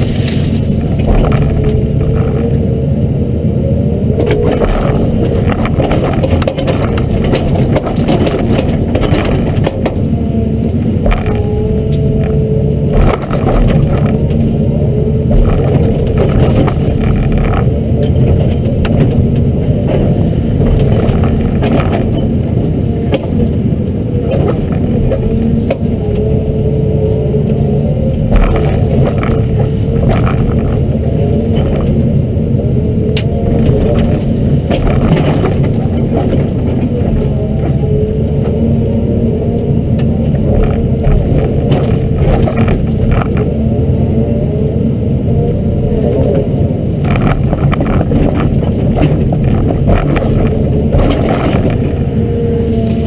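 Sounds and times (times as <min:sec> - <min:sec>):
knocks clatters and scraping: 0:00.0 - 0:02.7, 0:04.1 - 0:32.4, 0:33.1 - 0:38.7, 0:39.8 - 0:43.6, 0:46.0 - 0:53.0
excavator diesel engine under load: 0:00.0 - 0:53.0
hydraulic whine: 0:00.0 - 0:53.0.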